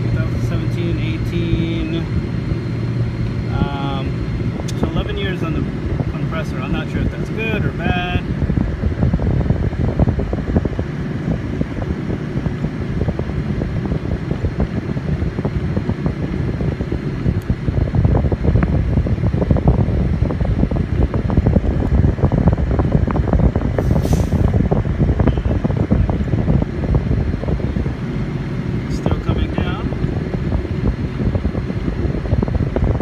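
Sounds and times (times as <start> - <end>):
car air conditioning blower: 0.0 - 33.0
wind buffeting microphone: 0.0 - 33.0.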